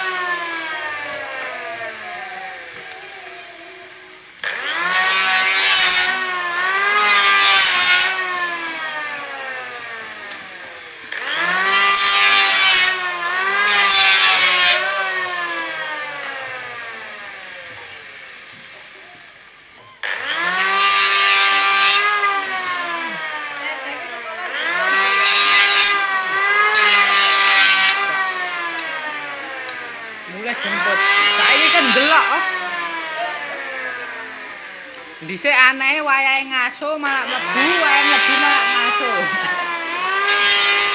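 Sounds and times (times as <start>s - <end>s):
electric planer motor: 0.0s - 40.9s
planer cutting wood: 0.0s - 40.9s.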